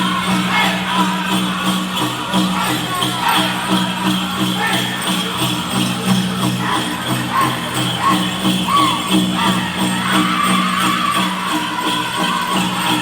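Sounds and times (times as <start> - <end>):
ankle bells jingling: 0.0 - 13.0
group singing in high voices: 0.0 - 13.0
pounding big drum beat: 0.0 - 13.0.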